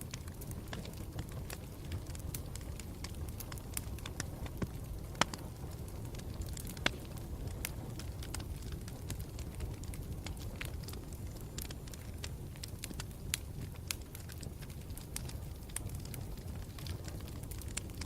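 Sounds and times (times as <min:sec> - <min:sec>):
campfire rumbling: 0:00.0 - 0:18.0
wood crackling and popping: 0:00.0 - 0:18.0.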